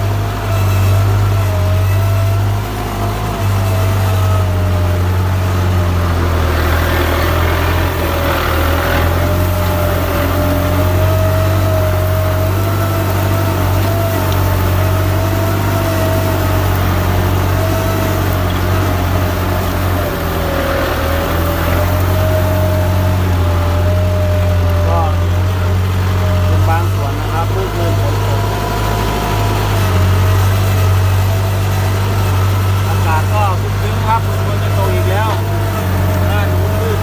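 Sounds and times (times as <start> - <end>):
tractor diesel engine drone: 0.0 - 37.0.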